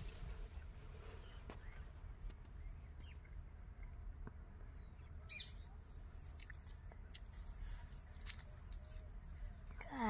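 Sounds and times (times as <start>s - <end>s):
bird chirp: 0.3s - 9.8s.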